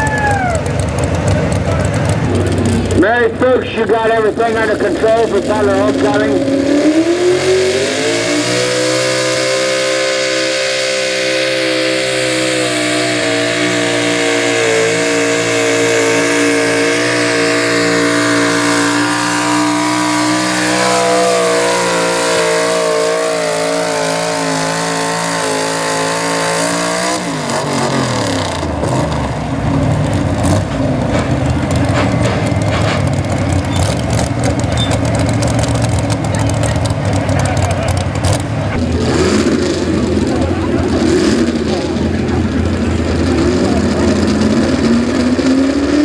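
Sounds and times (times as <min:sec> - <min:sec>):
truck engine at full throttle: 0:00.0 - 0:46.0.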